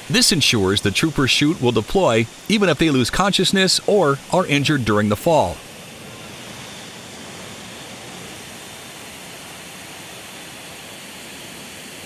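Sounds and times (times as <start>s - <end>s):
rushing air and aircraft engines: 0.0s - 12.0s.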